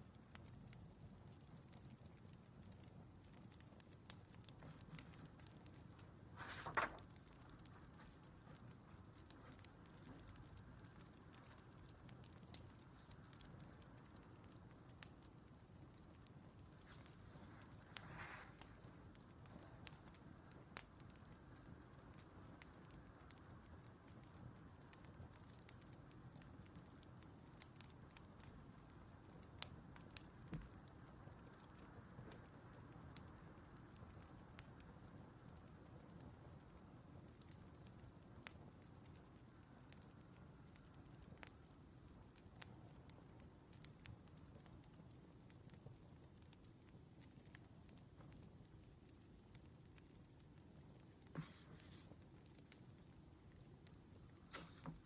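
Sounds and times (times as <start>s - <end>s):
low fire rumble: 0.0s - 55.0s
wood fire crackling: 0.0s - 55.0s.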